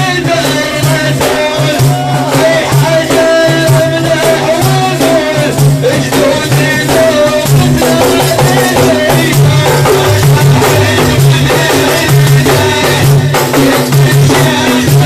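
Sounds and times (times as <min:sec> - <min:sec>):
frame drums beating: 0:00.0 - 0:15.0
man singing a chant: 0:00.0 - 0:15.0.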